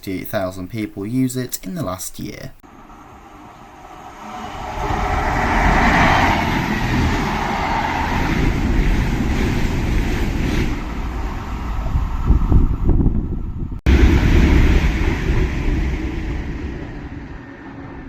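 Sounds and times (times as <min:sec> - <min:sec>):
train passing: 0:02.6 - 0:18.0.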